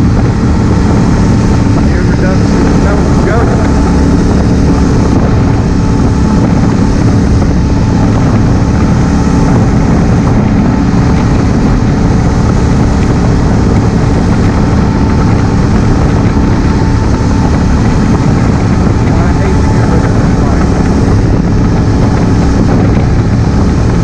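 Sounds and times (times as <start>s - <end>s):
motorcycle engine running: 0.0s - 24.0s
wind noise: 0.0s - 24.0s.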